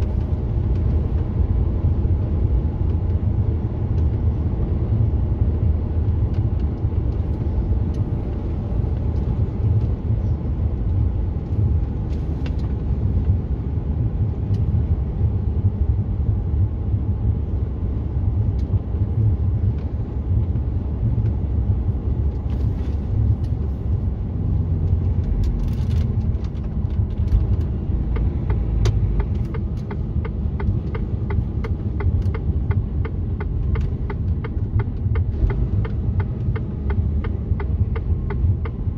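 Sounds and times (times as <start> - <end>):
truck engine and tyres rumbling: 0.0 - 38.9.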